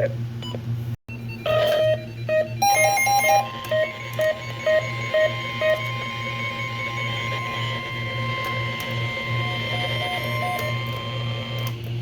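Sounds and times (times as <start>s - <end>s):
warbling data tones: 1.1s - 11.0s
steady warning alarm tone: 1.1s - 11.7s.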